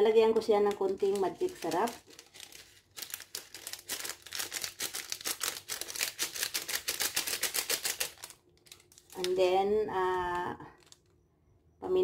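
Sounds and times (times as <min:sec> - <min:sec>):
seasoning sachet crinkling rattle: 0:00.5 - 0:09.5, 0:10.1 - 0:11.2.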